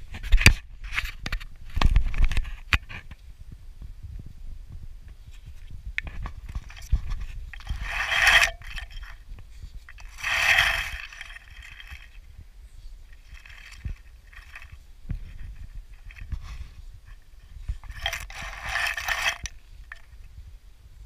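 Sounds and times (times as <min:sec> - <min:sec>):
grass rustling at microphone: 0:00.0 - 0:21.0
steady low rumble: 0:03.2 - 0:21.0.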